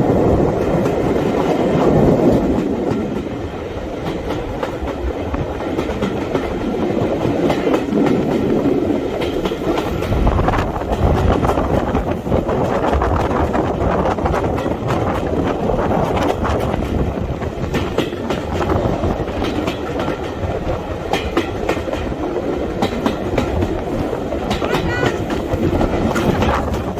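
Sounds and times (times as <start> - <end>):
train rumbling on track: 0.0 - 26.9
wheels clicking over rails: 0.0 - 26.9.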